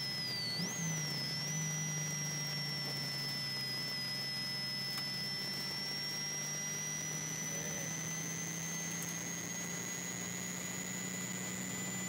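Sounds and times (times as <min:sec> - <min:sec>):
high-pitched whine: 0:00.0 - 0:12.0.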